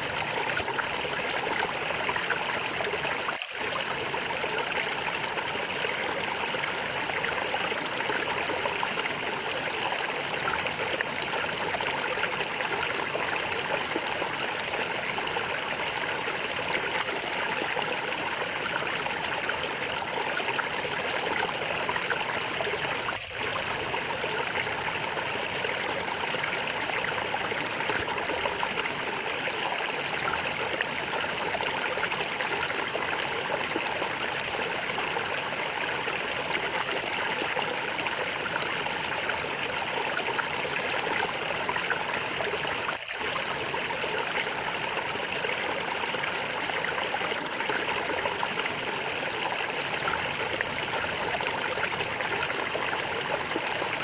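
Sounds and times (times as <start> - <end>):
water gurgling: 0.0 - 54.0.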